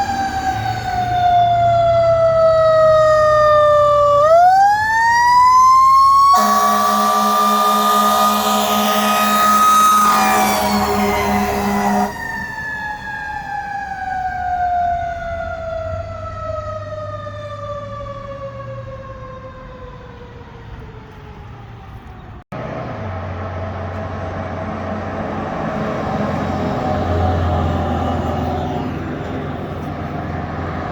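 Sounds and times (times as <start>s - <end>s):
fire truck siren winding down: 0.0s - 22.2s, 23.0s - 30.9s
engine and road noise: 0.0s - 30.9s.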